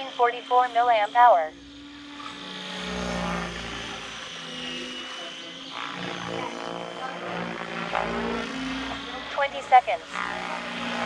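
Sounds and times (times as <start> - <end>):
rc helicopter whine: 0.0 - 11.0
rotor blade noise: 0.0 - 11.0.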